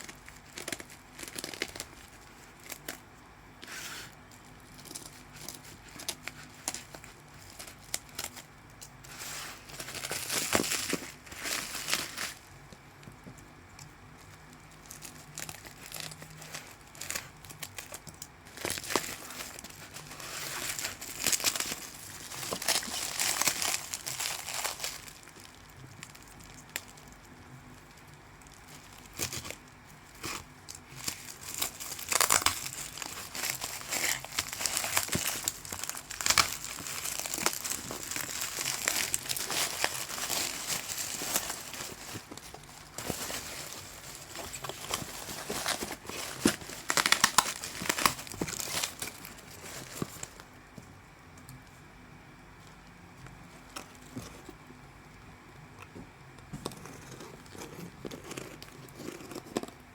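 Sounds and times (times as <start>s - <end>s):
packaging crinkling and rustling: 0.0s - 3.0s, 3.6s - 50.6s, 53.2s - 54.7s, 55.7s - 59.9s.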